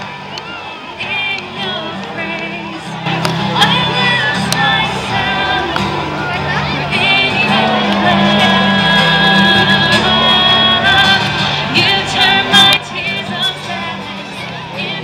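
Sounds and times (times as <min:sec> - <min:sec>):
acoustic guitar: 0:00.0 - 0:15.0
person singing: 0:01.0 - 0:15.0.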